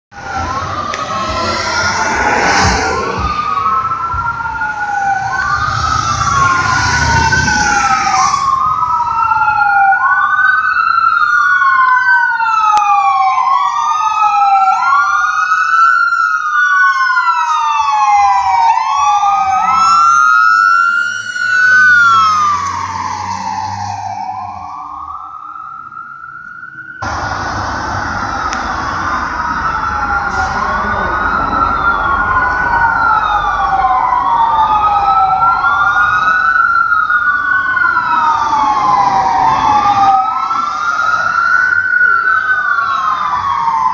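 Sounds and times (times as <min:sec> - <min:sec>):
fire engine sirens wailing: 0:00.1 - 0:43.9.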